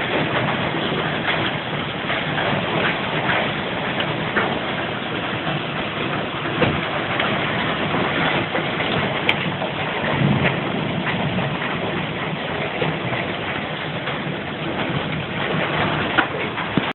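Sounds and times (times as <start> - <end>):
storm wind and rain roar: 0.0 - 16.9.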